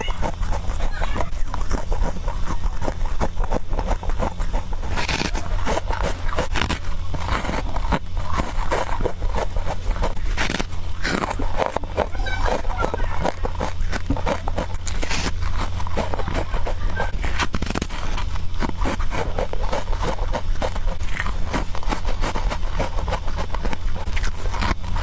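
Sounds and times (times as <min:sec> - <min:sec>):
chewing frost crunching: 0:00.0 - 0:25.0
steady low hum: 0:00.0 - 0:25.0.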